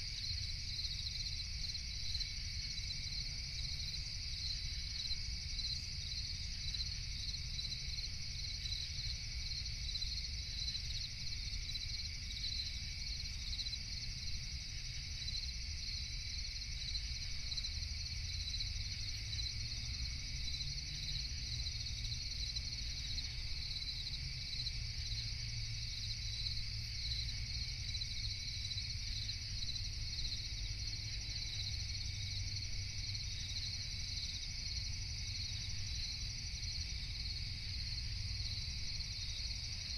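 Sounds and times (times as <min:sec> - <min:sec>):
constant low rumble: 0:00.0 - 0:39.9
night insects chirping: 0:00.0 - 0:39.9.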